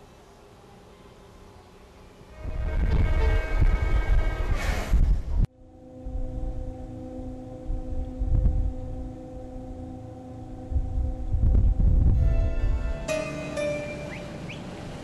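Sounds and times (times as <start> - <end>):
machinery hum: 0.0 - 15.0
low rumbling: 2.4 - 15.0.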